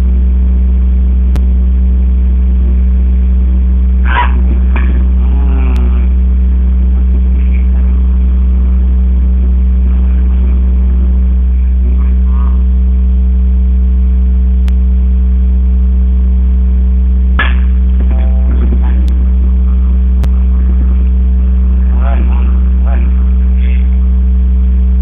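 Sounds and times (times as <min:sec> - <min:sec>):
loud steady low hum: 0:00.0 - 0:25.0.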